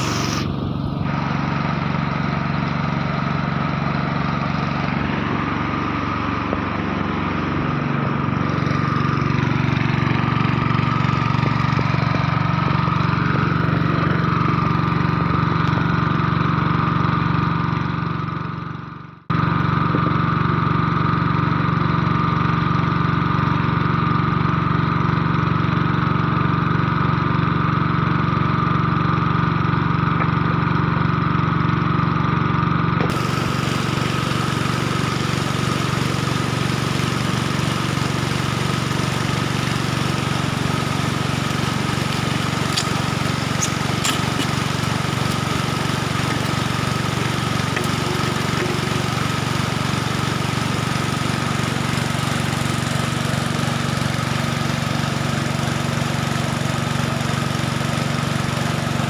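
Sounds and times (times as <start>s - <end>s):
small petrol engine running: 0.0s - 59.0s.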